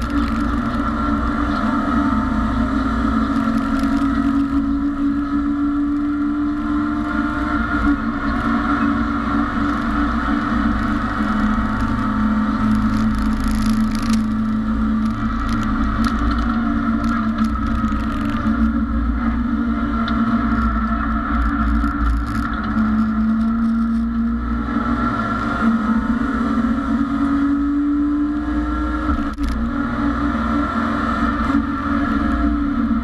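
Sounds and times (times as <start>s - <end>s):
race car engine running: 0.0s - 33.0s
road and wind noise: 0.0s - 33.0s.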